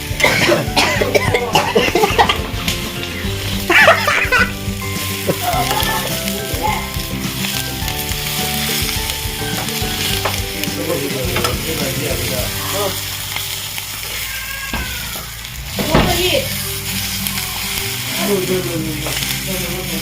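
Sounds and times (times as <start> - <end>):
chillies sizzling in oil: 0.0 - 20.0.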